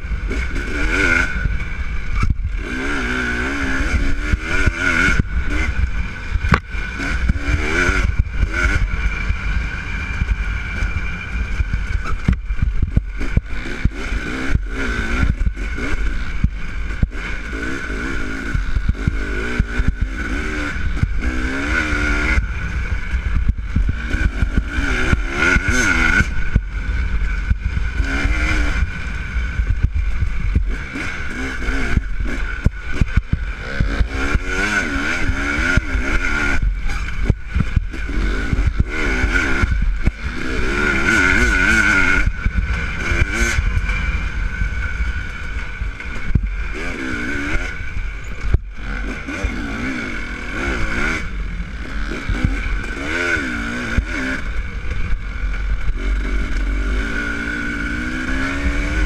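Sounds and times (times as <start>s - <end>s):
dirt bike engine revving: 0.0s - 59.0s
wind on microphone: 0.0s - 59.0s.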